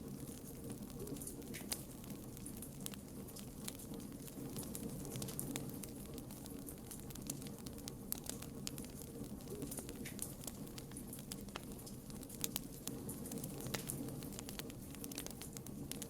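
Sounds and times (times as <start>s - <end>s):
campfire wood crackling and popping: 0.0s - 16.0s
low rush of flame: 0.0s - 16.0s.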